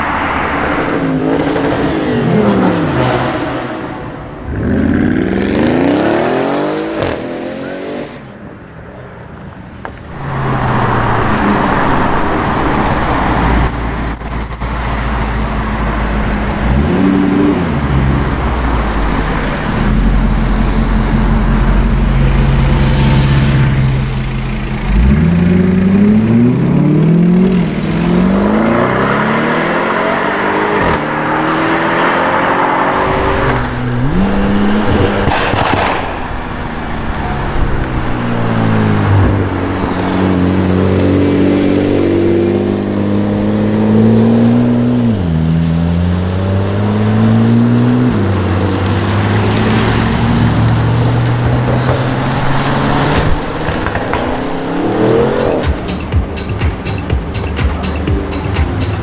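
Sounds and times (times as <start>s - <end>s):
car engine revving: 0.0s - 8.2s, 10.0s - 59.0s.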